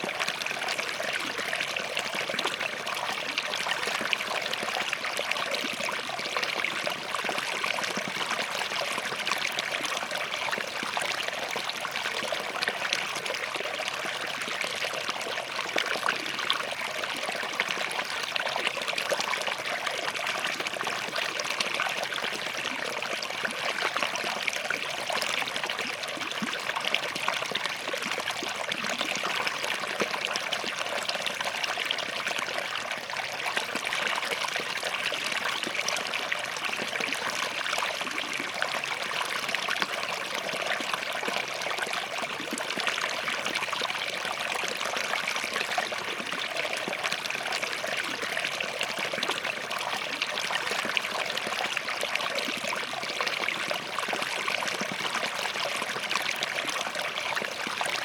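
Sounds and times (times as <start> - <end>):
stream burbling over rocks: 0.0 - 58.0.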